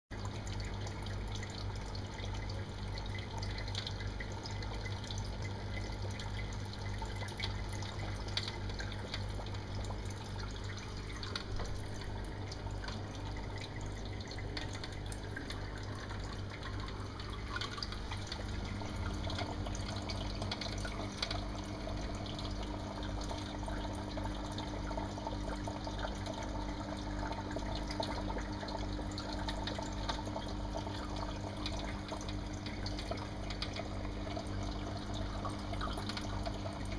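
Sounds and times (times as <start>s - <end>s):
water bubbling and trickling: 0.1s - 36.9s
steady low hum: 0.3s - 36.9s
higher steady hum: 4.9s - 36.9s.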